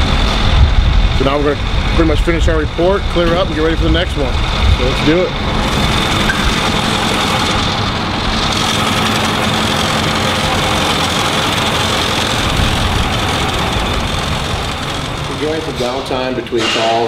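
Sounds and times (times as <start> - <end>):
engine idling: 0.0 - 16.4.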